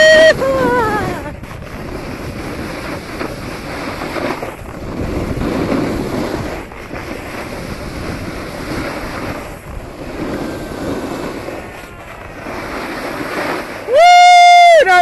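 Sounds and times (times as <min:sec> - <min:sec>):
skis scraping on snow: 0:00.0 - 0:15.0
wind rushing over microphone: 0:00.0 - 0:15.0.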